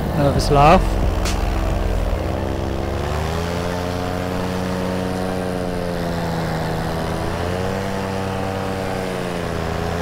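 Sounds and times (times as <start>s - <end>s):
paramotor engine and propeller: 0.0s - 10.0s.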